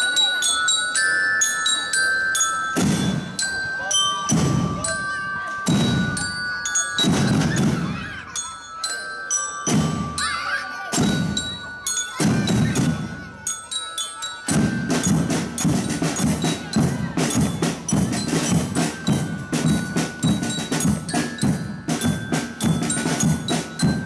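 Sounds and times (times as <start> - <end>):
bell lyres ringing a melody: 0.0 - 24.0
drum strokes: 2.6 - 8.4, 9.5 - 13.7, 14.4 - 24.0.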